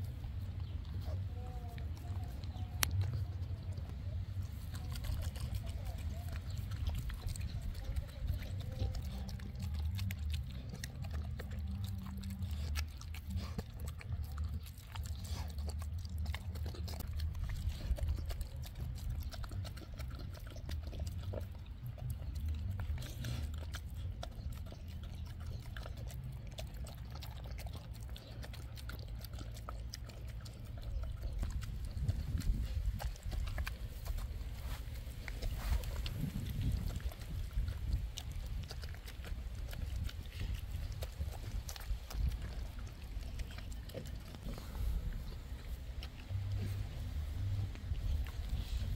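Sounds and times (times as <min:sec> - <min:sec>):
dog chewing and crunching: 0:00.0 - 0:48.9
steady low hum: 0:00.0 - 0:48.9.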